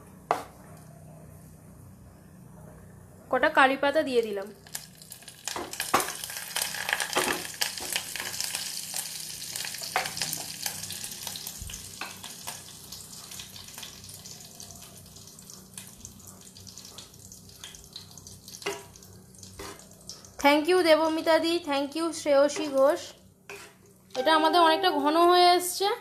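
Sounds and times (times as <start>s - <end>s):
spices sizzling in hot fat: 4.6s - 25.8s.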